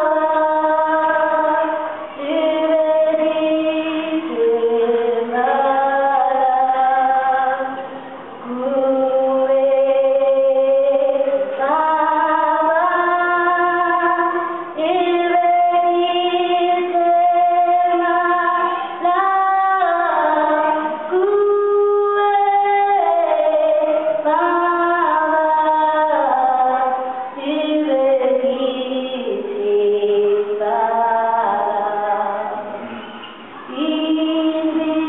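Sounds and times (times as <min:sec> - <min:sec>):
woman singing a slow song: 0:00.0 - 0:35.0.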